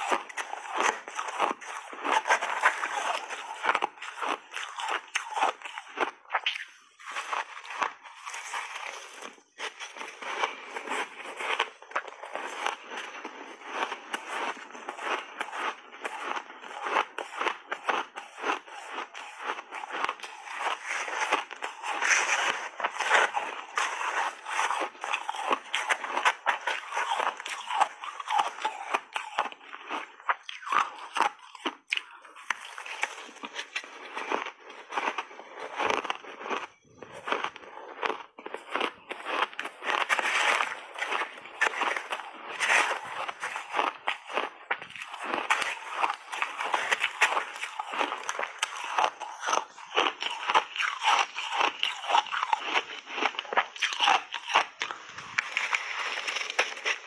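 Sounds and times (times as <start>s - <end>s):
crisp crunches of chewing ice: 0.0s - 57.0s.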